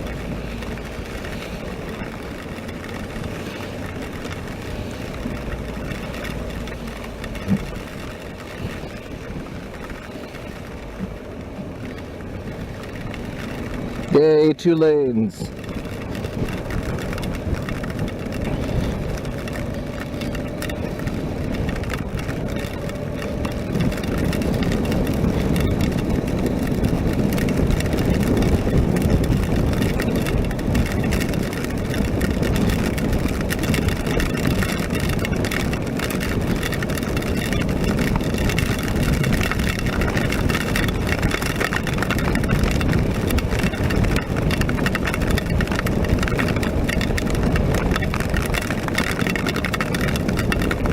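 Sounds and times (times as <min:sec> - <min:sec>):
motorcycle engine running: 0:00.0 - 0:50.9
tyre noise on wet road: 0:00.0 - 0:50.9
wind noise: 0:00.0 - 0:50.9.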